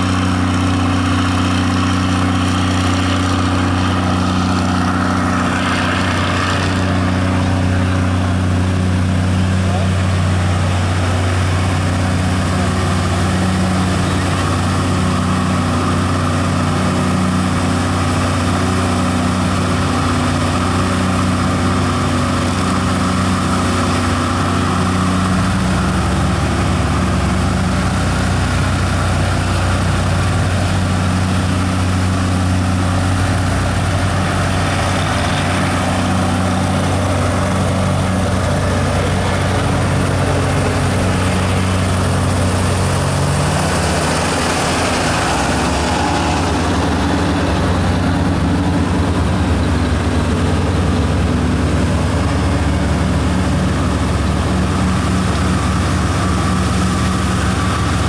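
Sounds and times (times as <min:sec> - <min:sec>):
crane engine droning: 0:00.0 - 0:58.0.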